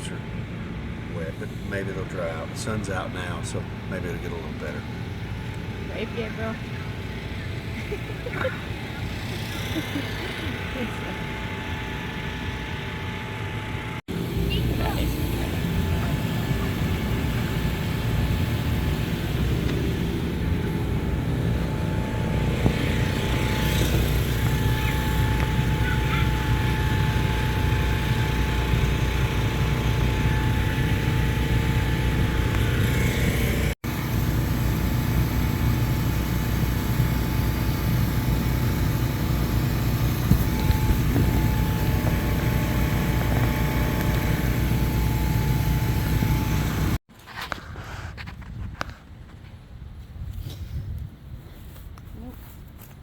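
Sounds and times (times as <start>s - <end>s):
blower fans humming: 0.0s - 47.0s
faint steady whine: 0.0s - 47.0s.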